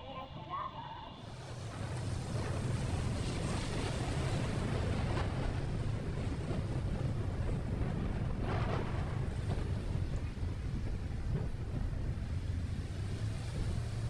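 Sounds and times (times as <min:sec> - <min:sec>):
vehicle road and engine rumble: 0:01.2 - 0:14.0
wind noise on microphone: 0:01.3 - 0:14.0.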